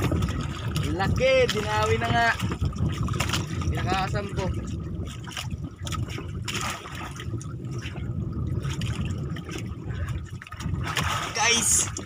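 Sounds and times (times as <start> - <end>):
steady low rumble: 0.0 - 12.0
water splashing against boat: 0.0 - 12.0.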